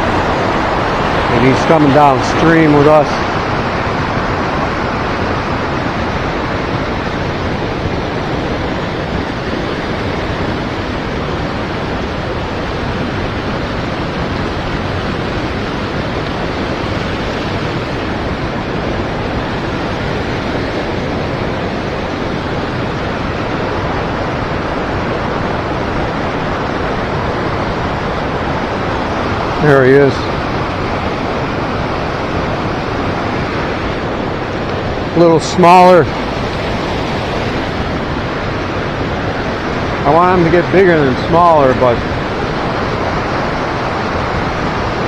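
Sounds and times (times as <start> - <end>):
river current flowing and splashing: 0.0 - 45.0.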